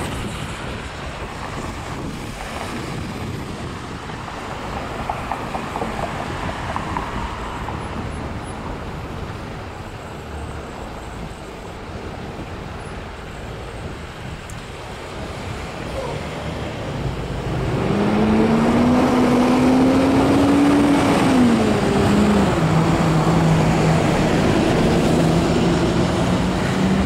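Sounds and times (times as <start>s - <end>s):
car engines and tyres: 0.0s - 27.0s.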